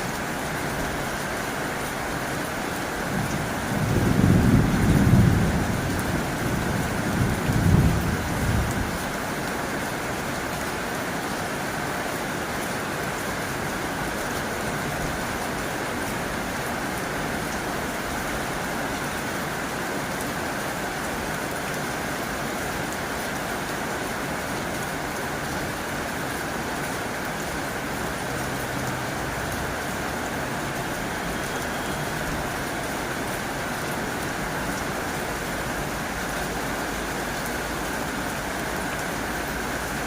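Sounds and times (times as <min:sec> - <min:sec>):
heavy rain on a tin roof: 0:00.0 - 0:40.0.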